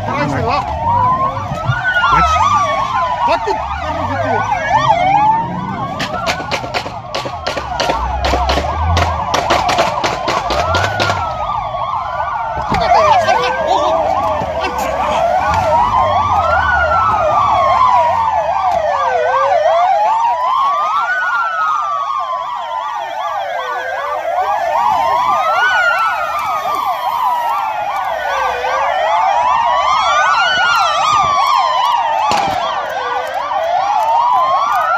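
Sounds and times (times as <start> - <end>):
police siren wail: 0.0 - 34.9
police siren yelp: 0.0 - 34.9.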